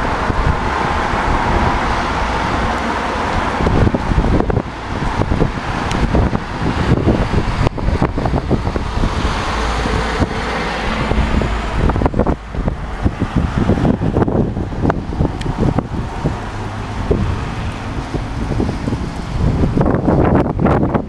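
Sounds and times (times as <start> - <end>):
cars passing on road: 0.0 - 21.0
gusty wind buffeting microphone: 0.0 - 21.0.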